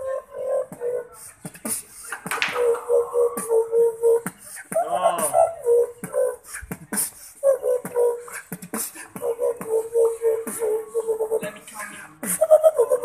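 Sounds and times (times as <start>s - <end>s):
person beatboxing: 0.0s - 2.0s, 3.2s - 13.0s.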